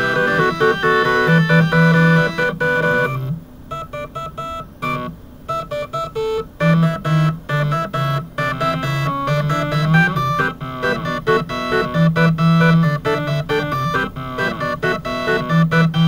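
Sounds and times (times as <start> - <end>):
stepper motors playing a tune: 0.0 - 16.0.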